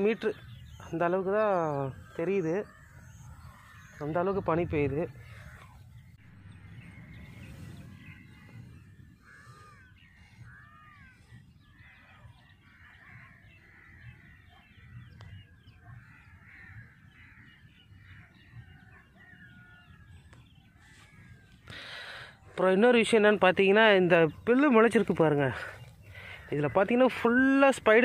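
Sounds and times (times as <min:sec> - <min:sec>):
many birds calling: 0:00.0 - 0:28.0.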